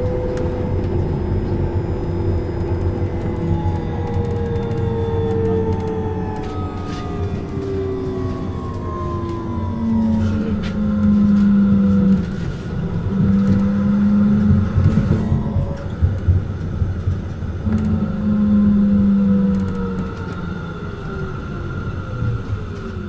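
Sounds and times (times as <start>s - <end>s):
falling whine: 0.0s - 23.0s
high whine: 0.0s - 23.0s.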